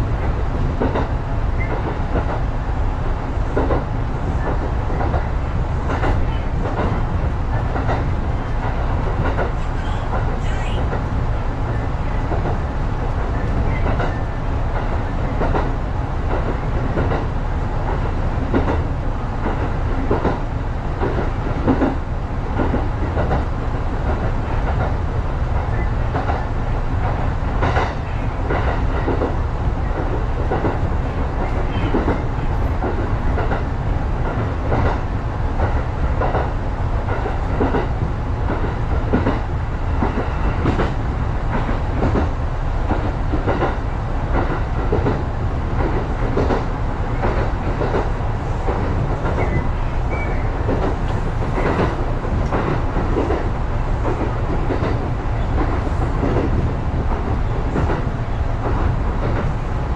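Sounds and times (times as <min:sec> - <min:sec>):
train rumbling inside: 0:00.0 - 0:59.9
wheels clacking on rails: 0:00.0 - 0:59.9.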